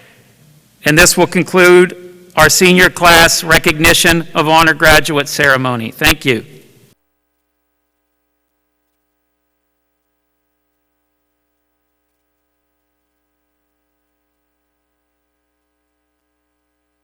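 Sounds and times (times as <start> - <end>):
faint electrical hum and hiss: 0.0 - 17.0.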